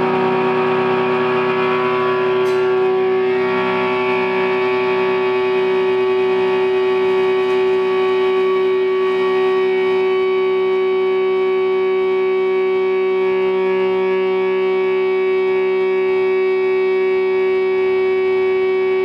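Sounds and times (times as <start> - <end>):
electric guitar feedback drone: 0.0 - 19.0.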